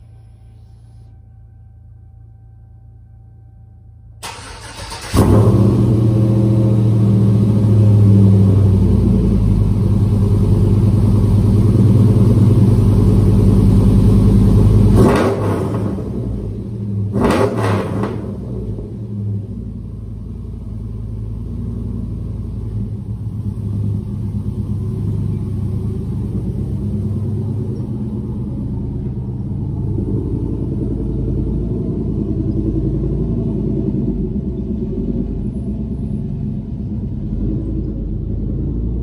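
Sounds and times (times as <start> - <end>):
truck engine rumbling: 0.0 - 39.0.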